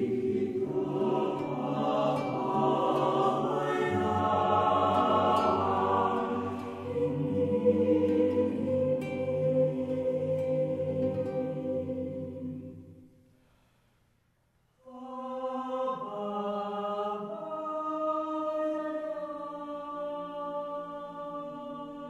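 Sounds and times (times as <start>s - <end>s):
choir-like held chords: 0.0s - 13.3s, 14.8s - 22.0s.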